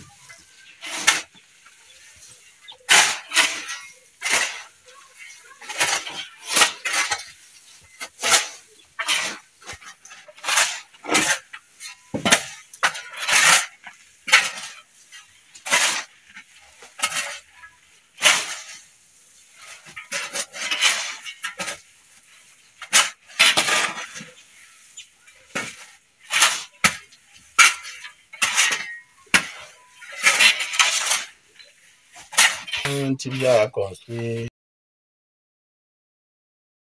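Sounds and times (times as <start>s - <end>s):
shovel scraping gritty soil: 0.0s - 34.5s.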